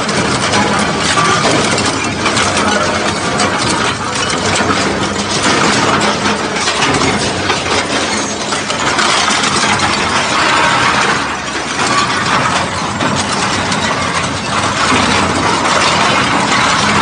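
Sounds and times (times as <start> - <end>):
shredder grinding metal: 0.0 - 17.0.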